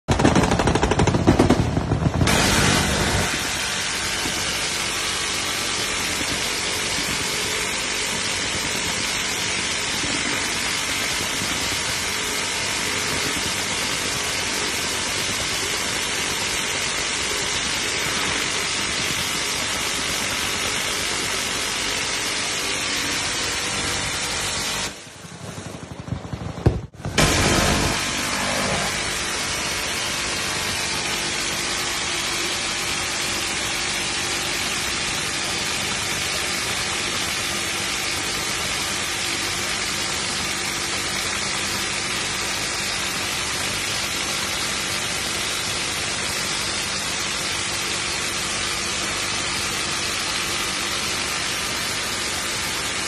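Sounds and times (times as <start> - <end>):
minigun firing continuous burst: 0.0 - 53.0.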